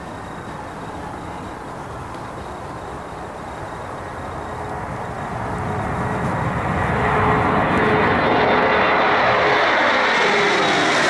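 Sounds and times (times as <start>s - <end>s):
jet engines at take-off thrust: 0.0s - 11.0s.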